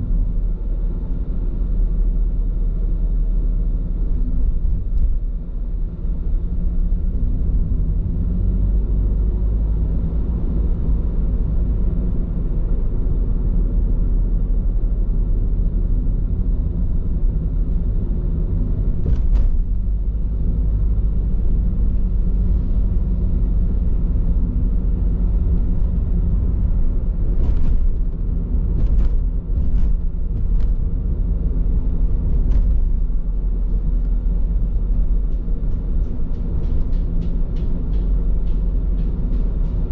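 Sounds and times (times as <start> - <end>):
car road rumble and tyre noise: 0.0 - 39.9.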